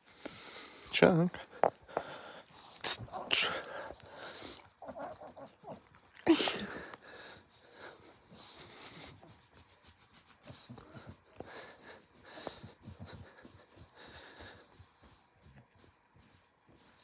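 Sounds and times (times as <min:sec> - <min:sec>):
dog snuffling breathing: 0:00.0 - 0:17.0.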